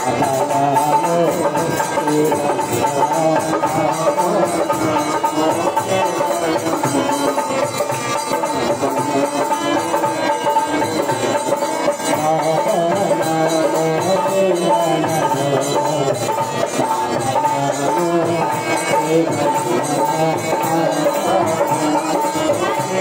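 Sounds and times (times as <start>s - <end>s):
music with steady beat: 0.0s - 23.0s.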